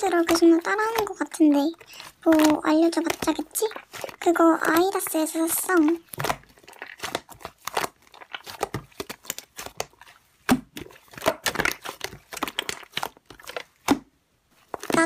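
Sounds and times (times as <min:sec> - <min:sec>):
slime crackling and popping: 0:00.0 - 0:15.0.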